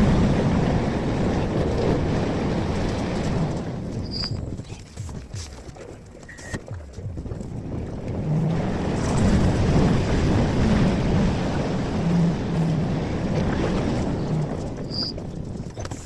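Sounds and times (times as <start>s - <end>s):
metro train rumbling: 0.0s - 4.6s, 7.5s - 15.8s.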